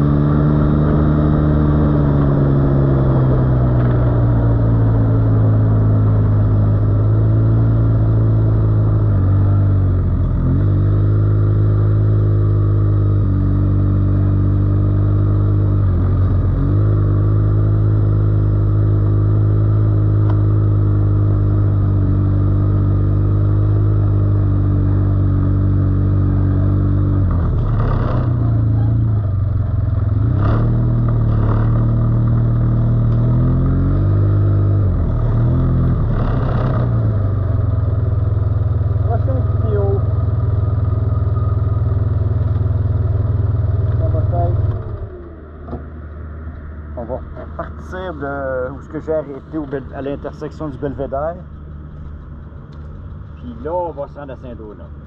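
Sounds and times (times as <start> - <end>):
quad bike engine running: 0.0 - 45.8.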